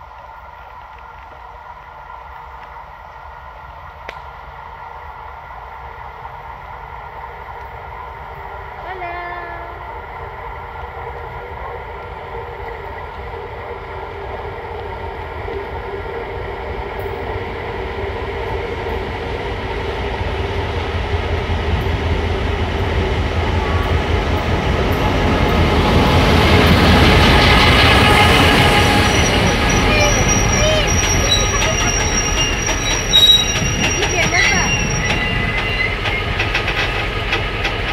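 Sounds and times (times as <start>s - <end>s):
diesel locomotive engine: 0.0s - 37.9s
train running noise: 0.0s - 37.9s.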